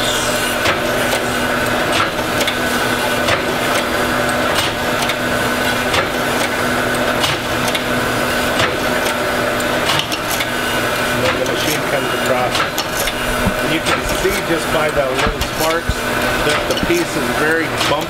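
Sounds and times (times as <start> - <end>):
surface grinder motor hum: 0.0 - 17.6.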